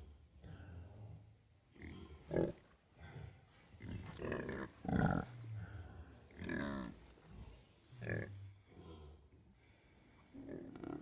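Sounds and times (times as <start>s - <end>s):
pigs grunting and snoring: 0.0s - 9.6s, 10.3s - 11.0s.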